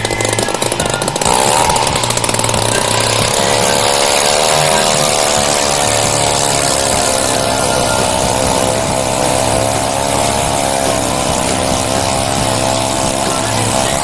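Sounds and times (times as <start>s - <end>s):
ice auger engine drilling: 0.0s - 14.0s.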